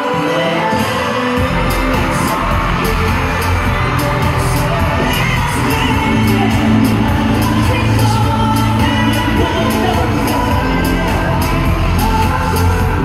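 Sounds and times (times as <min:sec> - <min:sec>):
crowd cheering: 0:00.0 - 0:13.0
pop dance track with vocals: 0:00.0 - 0:13.0
heavy bass line: 0:01.4 - 0:13.0.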